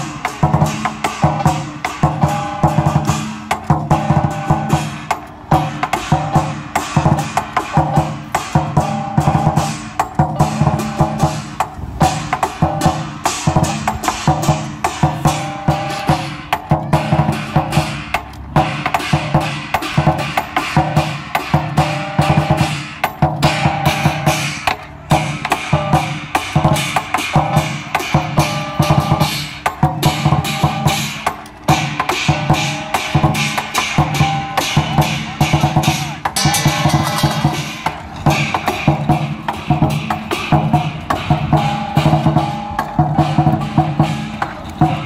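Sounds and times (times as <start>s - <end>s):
cymbals clashing: 0.0s - 45.0s
drum beaten rapidly: 0.0s - 45.0s.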